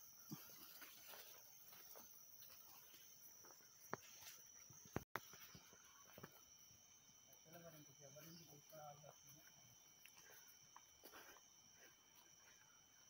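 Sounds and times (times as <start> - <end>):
faint high insect drone: 0.0 - 13.0.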